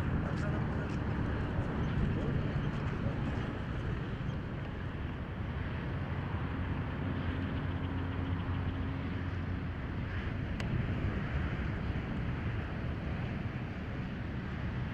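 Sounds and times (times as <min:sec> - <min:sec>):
distant engine rumble: 0:00.0 - 0:14.9.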